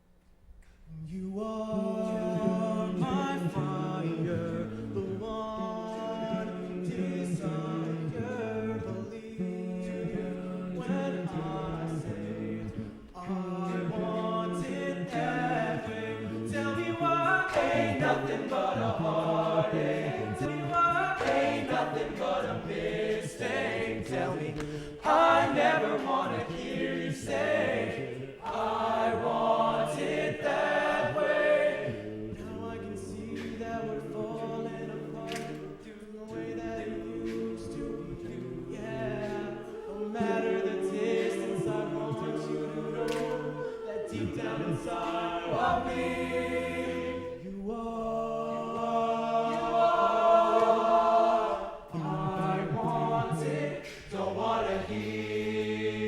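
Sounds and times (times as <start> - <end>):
male a cappella group singing: 0.6 - 56.0
sharp clicks keeping a beat: 3.0 - 56.0.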